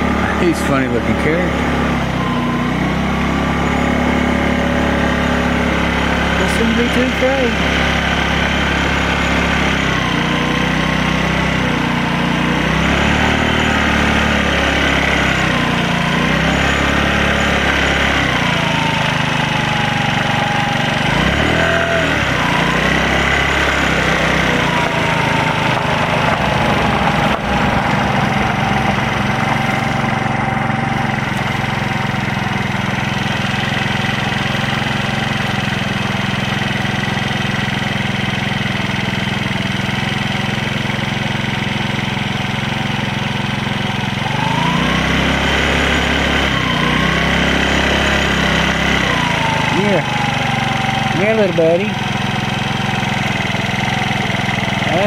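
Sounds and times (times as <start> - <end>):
scooter engine idling: 0.0 - 55.0.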